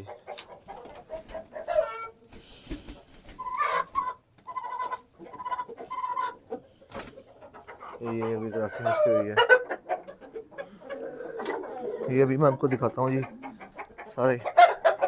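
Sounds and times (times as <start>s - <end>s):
chicken clucking: 0.0s - 15.0s.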